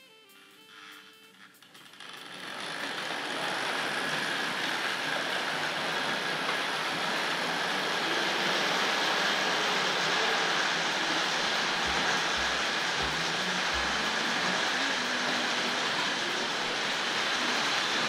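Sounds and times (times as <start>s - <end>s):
model train motors whirring: 0.1s - 18.0s
wheels clattering on rails: 1.5s - 18.0s.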